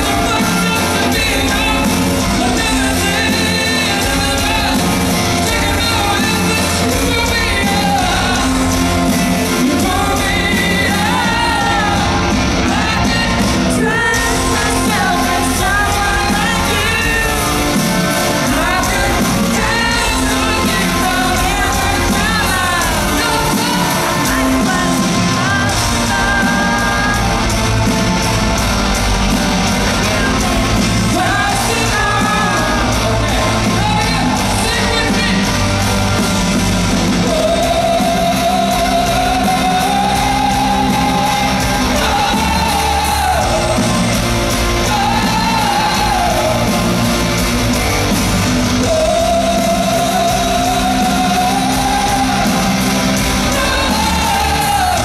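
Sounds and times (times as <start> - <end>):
live rock band: 0.0 - 55.0.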